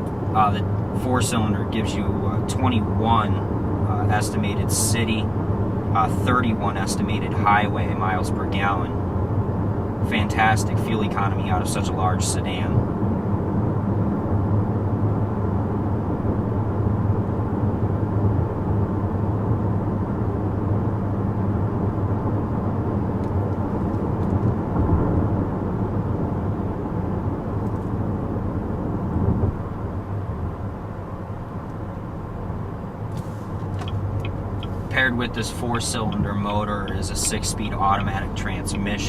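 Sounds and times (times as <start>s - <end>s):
car cabin engine hum: 0.0s - 39.0s.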